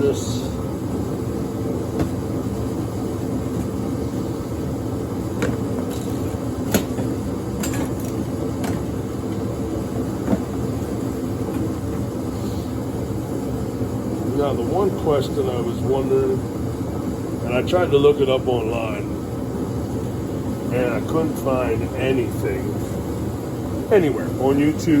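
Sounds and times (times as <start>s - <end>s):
steady droning hum: 0.0s - 25.0s.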